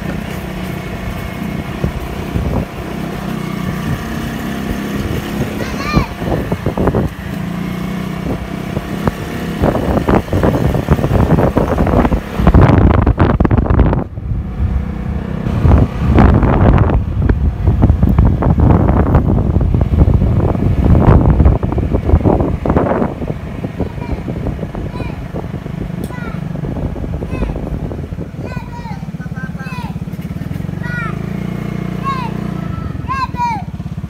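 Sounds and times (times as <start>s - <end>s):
motorcycle engine cruising: 0.0s - 34.0s
wind buffeting microphone: 0.0s - 34.0s.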